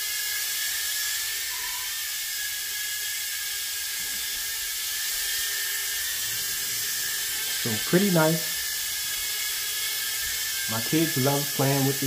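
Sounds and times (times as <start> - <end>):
toy drone motors whining: 0.0 - 12.0.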